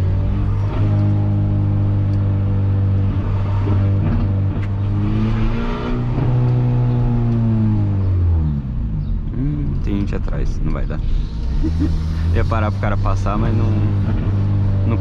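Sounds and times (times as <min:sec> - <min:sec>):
car engine droning and revving: 0:00.0 - 0:15.0.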